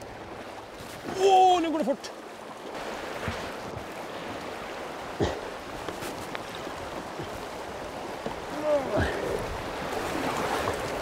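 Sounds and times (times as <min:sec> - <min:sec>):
river rapid over rocks: 0:00.0 - 0:11.0
splashes of wading legs: 0:00.3 - 0:11.0.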